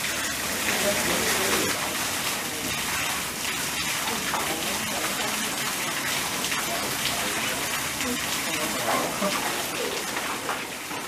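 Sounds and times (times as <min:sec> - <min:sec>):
falling water hissing: 0:00.0 - 0:11.0
water pattering: 0:00.0 - 0:11.0.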